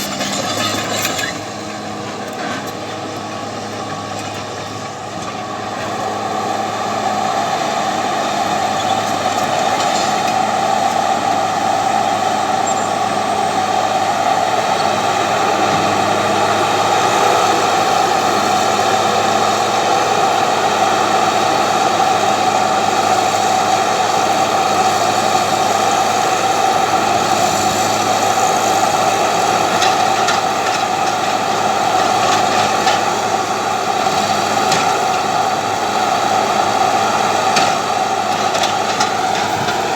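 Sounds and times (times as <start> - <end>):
heavy machine engine humming: 0.0 - 39.9.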